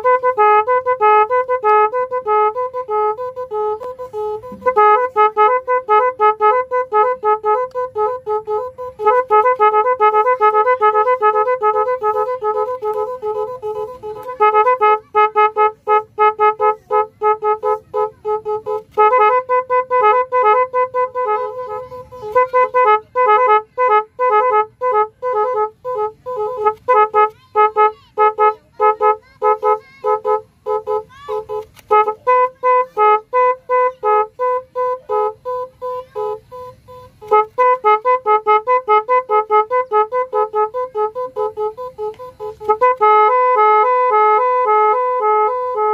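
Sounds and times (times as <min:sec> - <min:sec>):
electronic horn beeping melodies: 0:00.0 - 0:45.9.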